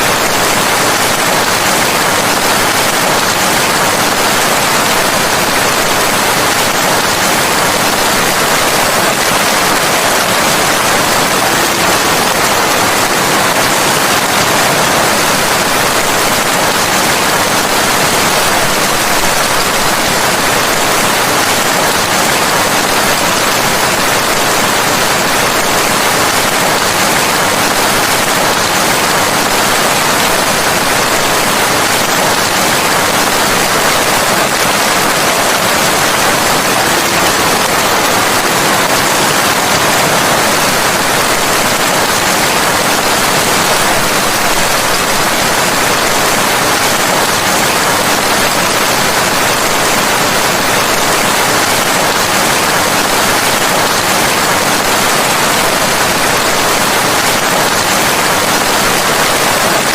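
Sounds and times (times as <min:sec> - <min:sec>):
steady dense rainfall: 0:00.0 - 0:59.9.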